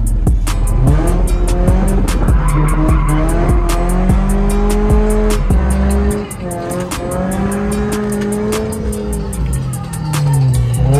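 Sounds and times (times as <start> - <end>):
background music with steady beat: 0.0 - 10.9
car engine revving: 0.0 - 10.9
tyres squealing: 1.0 - 10.9.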